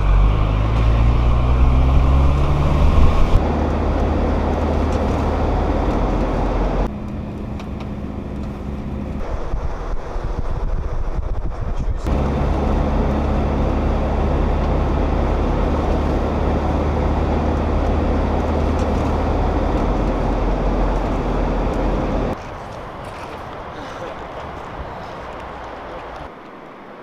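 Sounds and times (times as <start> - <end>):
car engine and road hum: 0.0 - 27.0.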